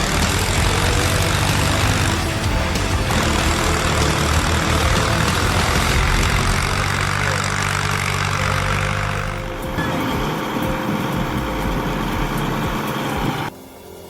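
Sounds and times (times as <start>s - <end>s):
tractor engine running: 0.0s - 13.5s.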